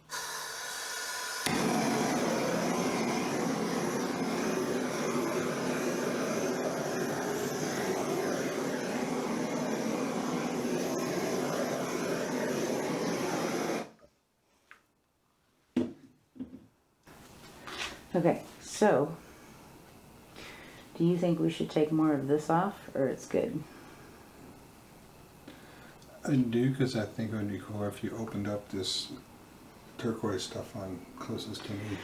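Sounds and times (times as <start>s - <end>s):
torch flame blowing: 0.0s - 14.0s, 17.1s - 32.0s.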